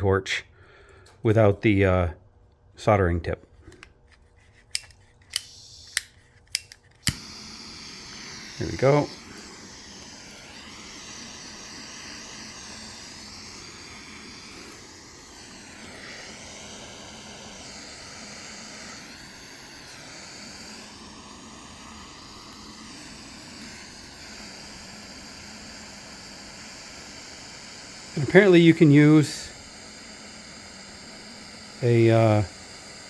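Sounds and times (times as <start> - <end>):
torch flame hissing: 4.7 - 33.0.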